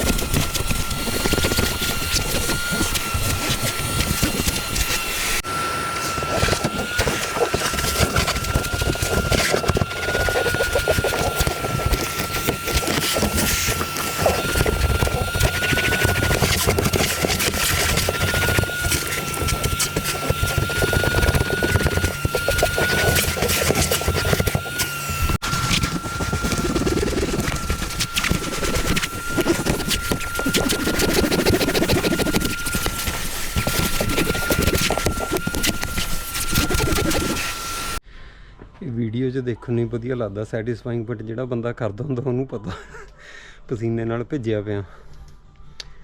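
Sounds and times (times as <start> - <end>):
electric motor whining: 0.0 - 38.0.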